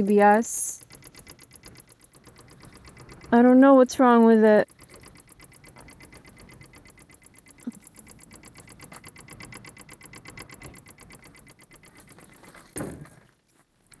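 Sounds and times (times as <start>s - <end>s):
rapid electrical ticking: 0.0s - 12.9s.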